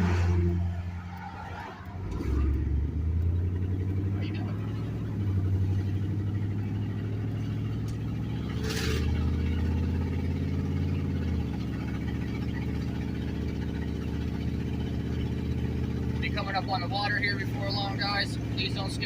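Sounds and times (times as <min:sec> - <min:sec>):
truck engine from inside cab: 0:00.0 - 0:19.0.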